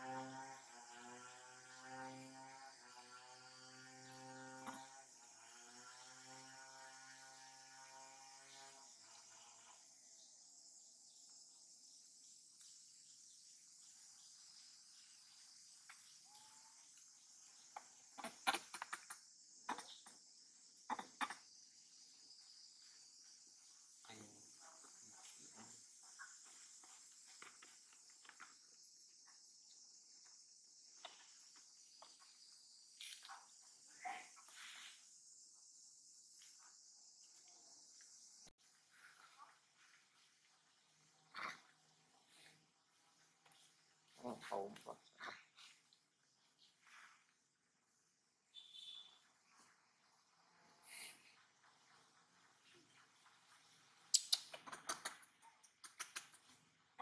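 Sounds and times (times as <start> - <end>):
insects buzzing high-pitched: 0.0 - 56.8.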